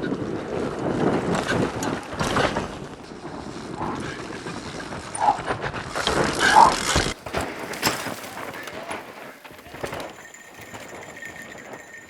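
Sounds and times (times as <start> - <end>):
bike rattling over rocks: 0.0 - 12.0
wind on microphone: 0.0 - 12.0.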